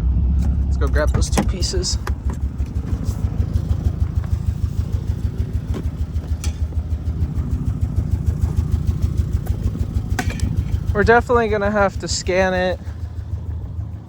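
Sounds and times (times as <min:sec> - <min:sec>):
car engine pulsing: 0:00.0 - 0:14.0.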